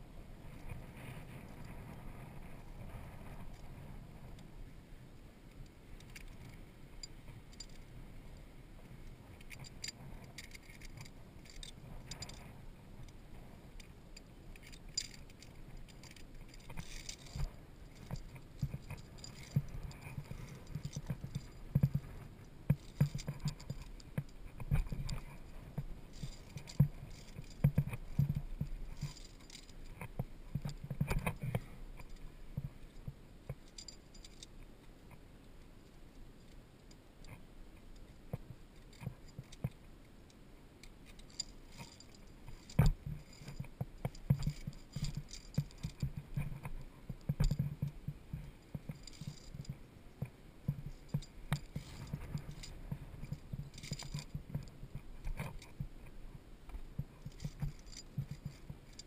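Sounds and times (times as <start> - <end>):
carabiners clinking on steel cable: 5.6 - 7.9, 8.8 - 35.0, 36.4 - 59.0.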